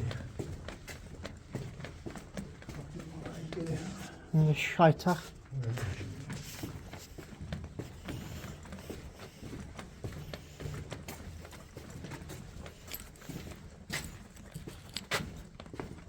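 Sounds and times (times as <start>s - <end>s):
footsteps on hard floor: 0.0s - 16.0s.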